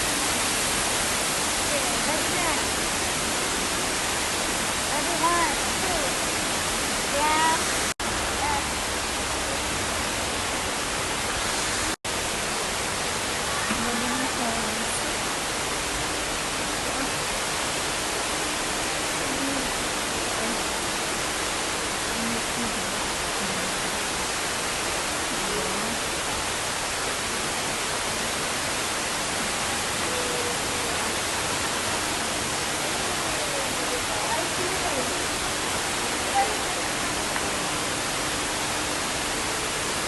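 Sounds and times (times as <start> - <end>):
waterfall roaring: 0.0 - 40.0.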